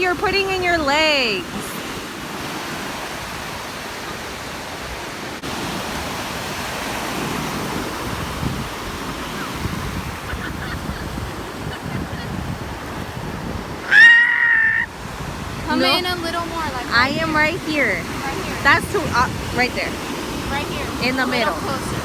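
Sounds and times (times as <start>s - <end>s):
ocean surf washing onto shore: 0.0s - 22.0s
wind rumbling on microphone: 0.0s - 22.0s.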